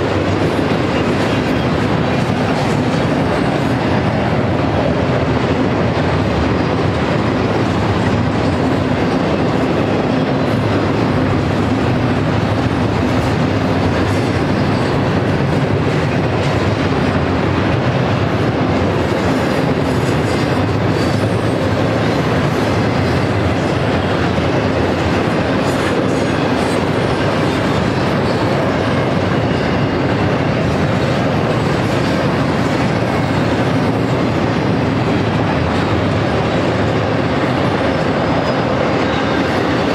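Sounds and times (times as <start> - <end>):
steel wheels clattering on rails: 0.0 - 39.9.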